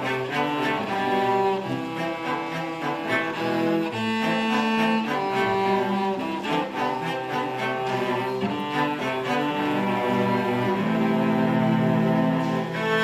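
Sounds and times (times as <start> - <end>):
bowed strings sustained notes: 0.0 - 13.0
orchestra playing: 0.0 - 13.0.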